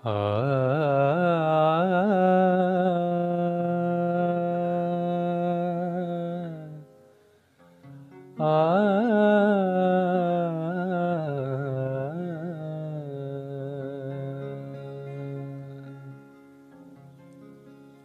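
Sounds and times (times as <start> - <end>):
man humming a melody: 0.0 - 6.9, 8.4 - 16.4.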